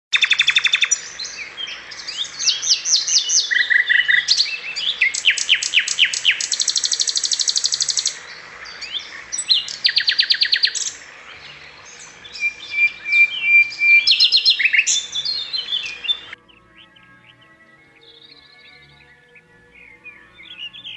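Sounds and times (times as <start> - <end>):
canary singing trills: 0.1 - 20.9.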